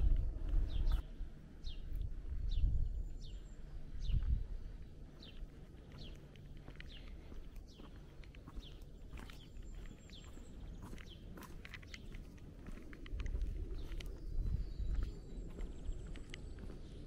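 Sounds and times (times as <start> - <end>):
bird chirping: 0.0 - 17.0
low rumbling noise: 0.0 - 17.0.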